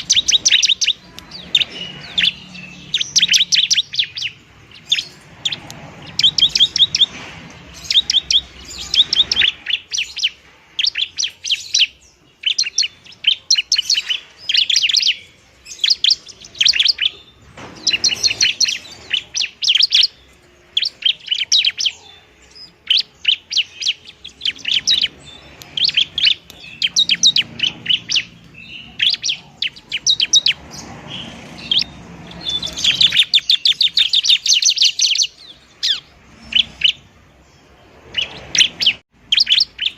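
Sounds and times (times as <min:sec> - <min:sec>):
bird singing sharp high chirps: 0:00.0 - 0:39.9.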